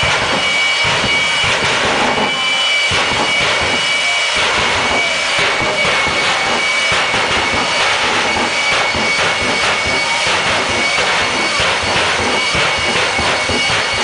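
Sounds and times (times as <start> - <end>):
jet engine roaring with whine: 0.0 - 14.0.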